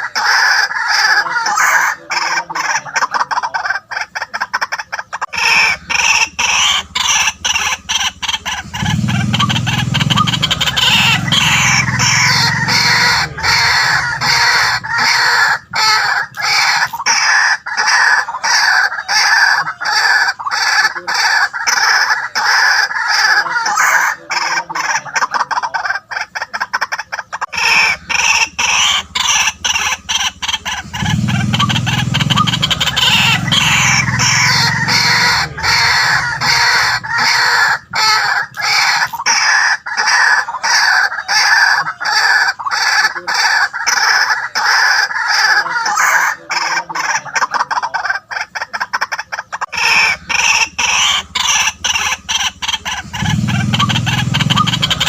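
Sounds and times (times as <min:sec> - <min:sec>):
waterhen calling harshly: 0:00.0 - 0:55.0.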